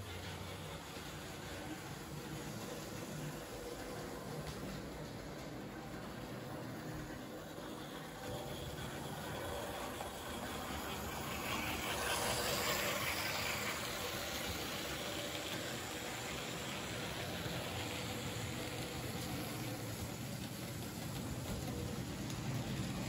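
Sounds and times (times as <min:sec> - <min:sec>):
model trains rumbling on track: 0:00.0 - 0:23.0.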